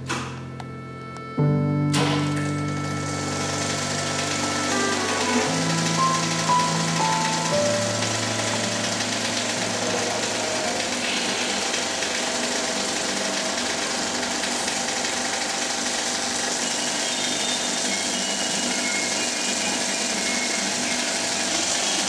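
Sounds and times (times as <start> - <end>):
film projector whirring and rattling: 2.0 - 22.0.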